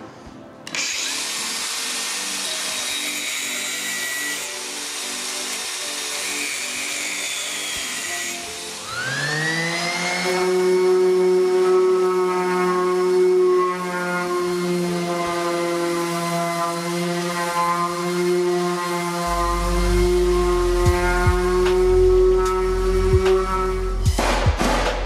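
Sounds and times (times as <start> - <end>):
angle grinder cutting metal: 0.6 - 24.1
orbital sander whining: 0.7 - 24.1.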